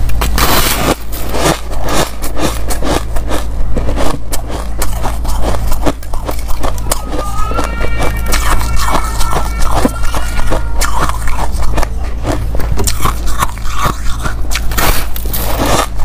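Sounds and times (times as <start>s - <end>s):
crunching ice: 0.0s - 16.0s
steady low hum: 0.0s - 16.0s.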